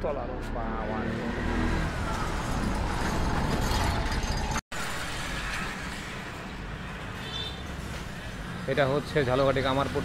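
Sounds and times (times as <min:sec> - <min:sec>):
vehicle rumble: 0:00.2 - 0:10.0.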